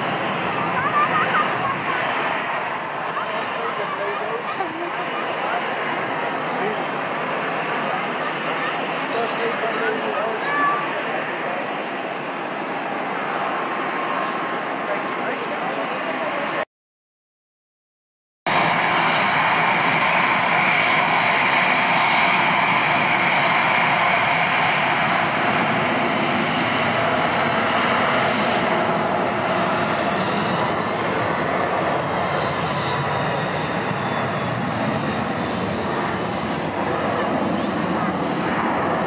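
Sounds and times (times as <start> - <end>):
jet engines rushing: 0.0 - 16.6, 18.5 - 39.0.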